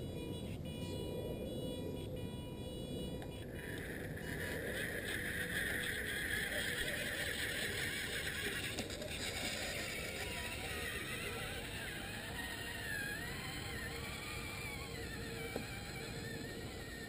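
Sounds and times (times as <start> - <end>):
toy excavator motors whining: 0.0 - 17.0.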